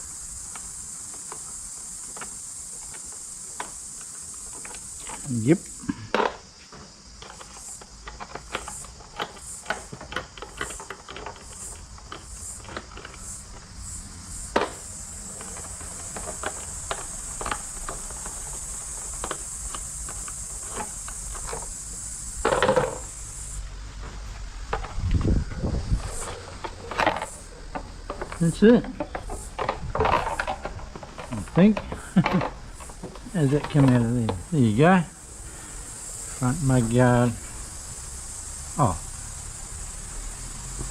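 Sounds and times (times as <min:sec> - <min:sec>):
steady high hiss: 0:00.0 - 0:40.9.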